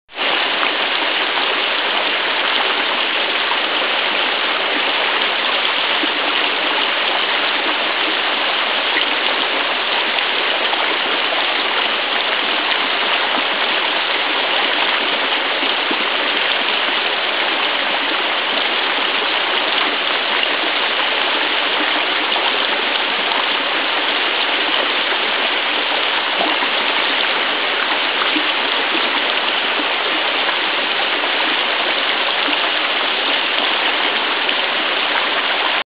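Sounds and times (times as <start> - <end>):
stream water flowing: 0.1 - 35.8.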